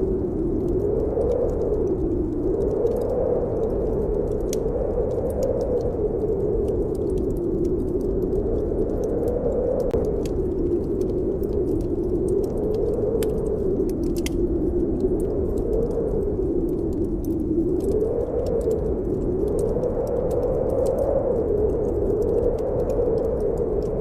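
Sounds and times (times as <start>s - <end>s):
wind howling: 0.0s - 24.0s
wood fire crackling: 0.0s - 24.0s.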